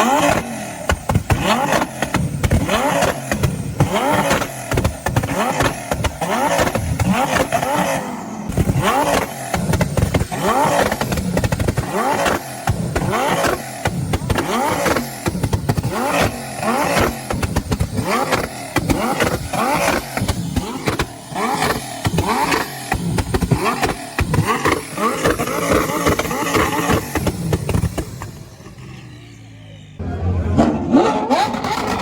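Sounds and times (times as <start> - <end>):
exhaust pops and crackles: 0.0 - 29.1, 31.0 - 32.0
sports car engine revving: 0.0 - 32.0.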